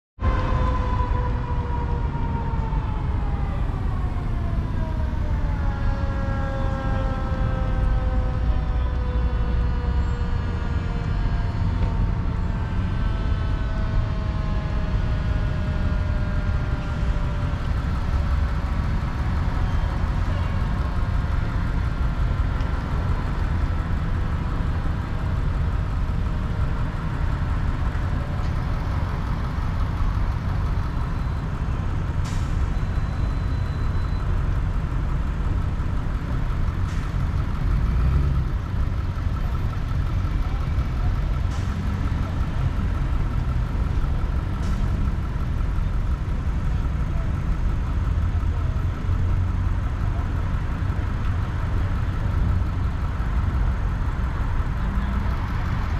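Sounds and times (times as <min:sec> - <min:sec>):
road traffic rumble: 0:00.2 - 0:55.9.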